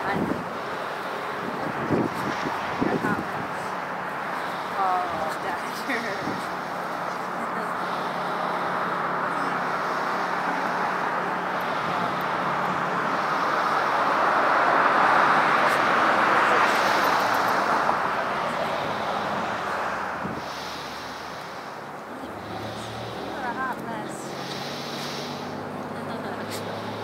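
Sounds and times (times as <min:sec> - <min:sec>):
road traffic rushing: 0:00.0 - 0:27.0
vehicle passing: 0:00.0 - 0:27.0.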